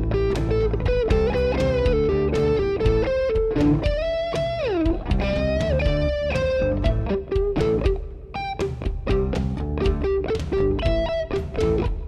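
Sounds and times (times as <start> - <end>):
electric guitar lead line: 0.0 - 12.0.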